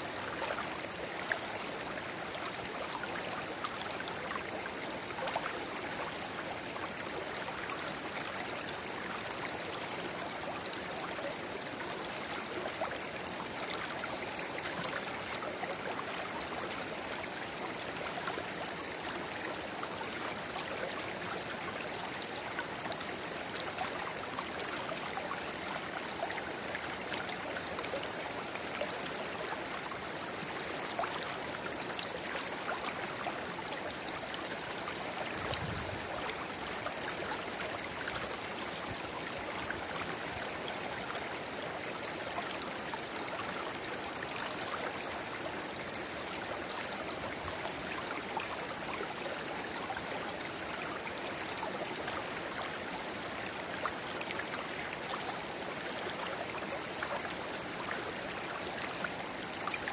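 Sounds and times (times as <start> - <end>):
river babbling: 0.0 - 59.9.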